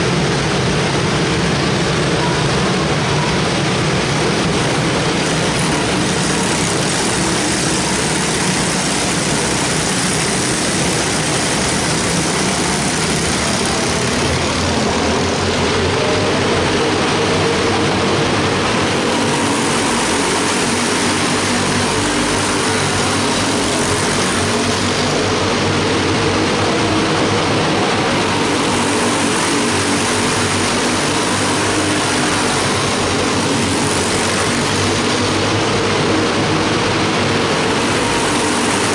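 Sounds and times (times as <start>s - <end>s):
small race car engines buzzing: 0.0s - 38.9s.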